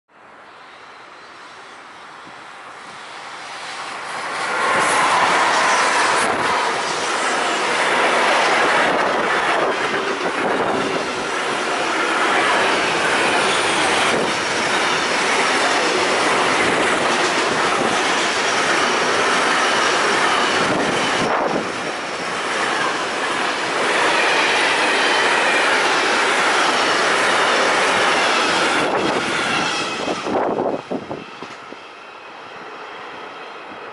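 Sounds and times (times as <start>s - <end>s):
freight train passing: 0.2s - 33.9s.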